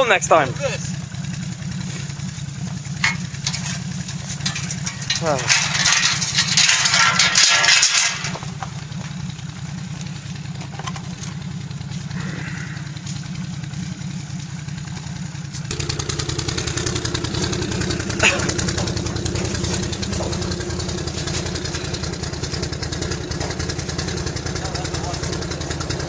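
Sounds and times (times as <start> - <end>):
atv engine idling: 0.0 - 7.4, 8.0 - 26.0.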